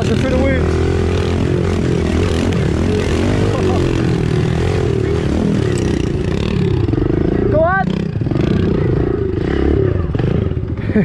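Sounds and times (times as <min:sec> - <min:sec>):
small motorbike engines running: 0:00.0 - 0:11.0.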